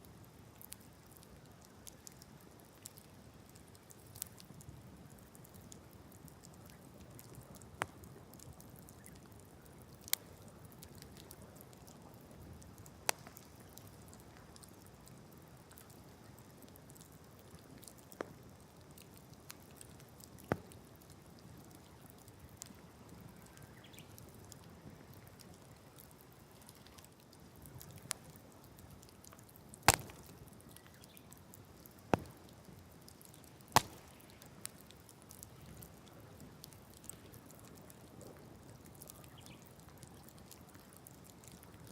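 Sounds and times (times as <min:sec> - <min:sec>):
campfire crackling: 0:00.0 - 0:41.9
faint steady hiss: 0:00.0 - 0:41.9.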